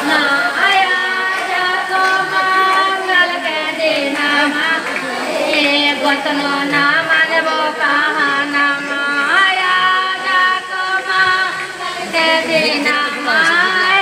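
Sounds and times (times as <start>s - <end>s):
high voice singing: 0.0s - 14.0s.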